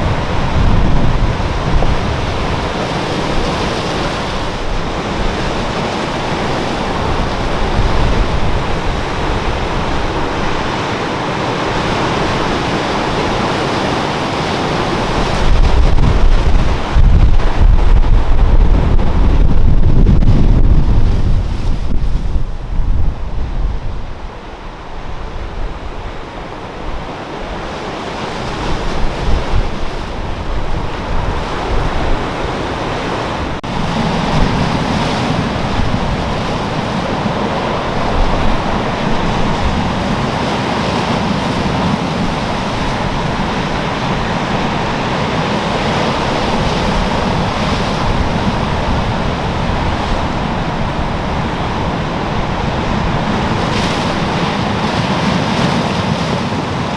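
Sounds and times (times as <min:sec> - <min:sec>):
heavy waves breaking: 0:00.0 - 0:56.9
surf churning: 0:00.0 - 0:56.9
wind buffeting microphone: 0:00.0 - 0:56.9.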